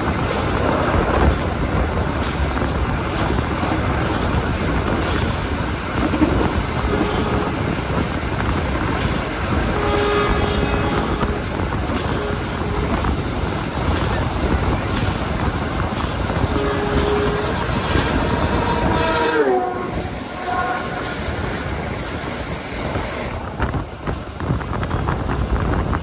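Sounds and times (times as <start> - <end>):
rail clacks: 0.0 - 26.0
train wheels rumbling on rail: 0.0 - 26.0.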